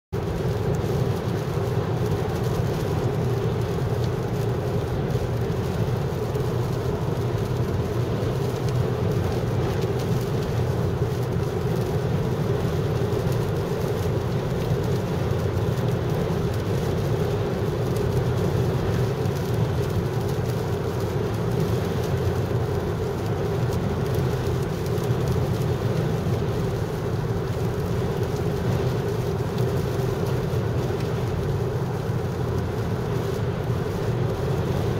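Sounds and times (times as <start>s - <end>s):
car engine and tyre noise: 0.1s - 34.9s
rain on windshield: 0.2s - 34.9s.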